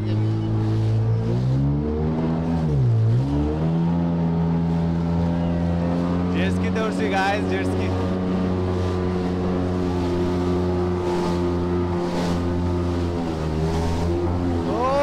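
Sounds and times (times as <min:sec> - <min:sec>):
jet ski engine running: 0:00.0 - 0:15.0.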